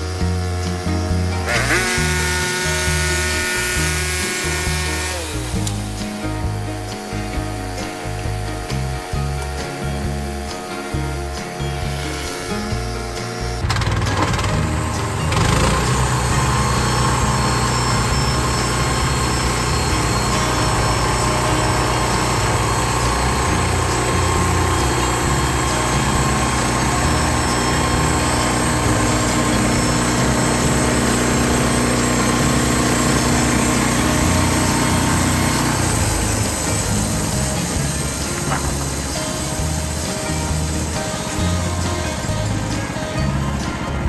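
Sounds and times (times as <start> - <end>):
gas engine running: 0.0 - 44.0.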